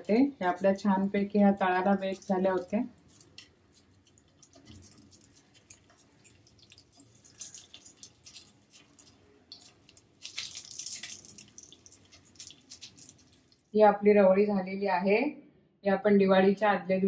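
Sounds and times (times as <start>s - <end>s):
oil sizzling and crackling in pan: 0.0s - 13.8s.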